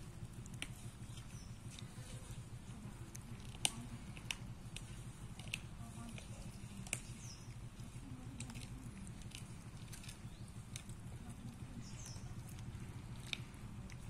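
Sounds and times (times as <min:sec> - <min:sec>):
cat chewing raw meat: 0:00.0 - 0:14.0
steady low hum: 0:00.0 - 0:14.0.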